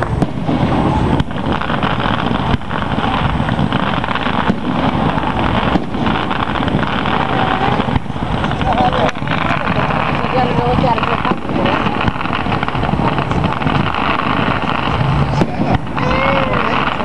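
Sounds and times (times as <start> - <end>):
fireworks rumbling: 0.0 - 17.0
sharp firework crack: 0.0 - 17.0.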